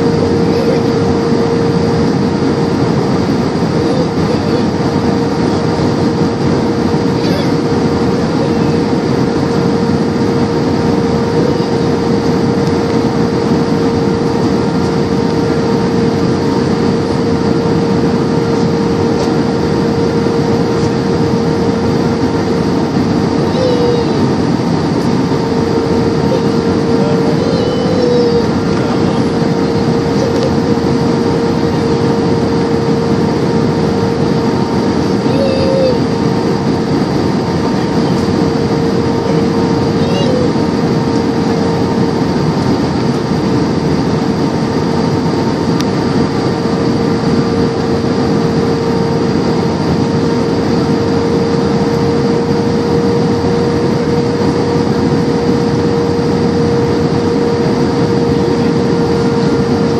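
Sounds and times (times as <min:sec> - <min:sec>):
constant hum: 0:00.0 - 0:59.9
jet engines: 0:00.0 - 0:59.9.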